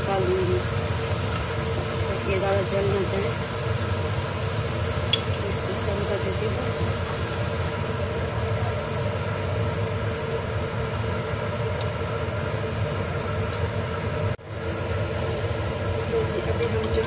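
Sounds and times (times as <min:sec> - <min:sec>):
appliance hum: 0:00.0 - 0:17.0
hot oil sizzling in a frying pan: 0:00.0 - 0:17.0.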